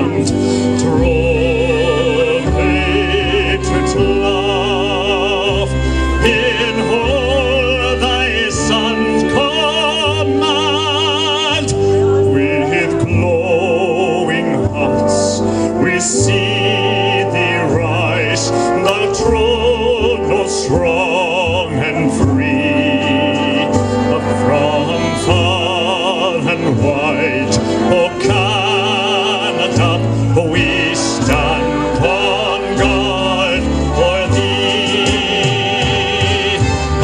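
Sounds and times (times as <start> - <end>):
instrumental accompaniment: 0.0 - 37.0
man singing operatically: 0.0 - 37.0.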